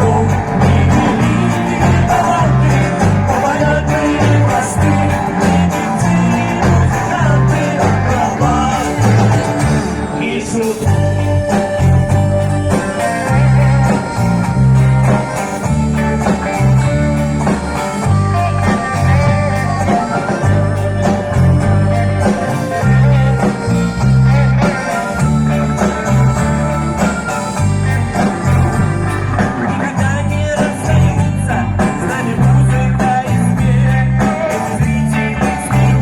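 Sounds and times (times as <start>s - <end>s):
live band guitar: 0.0s - 36.0s
pulsing bass line: 0.0s - 36.0s.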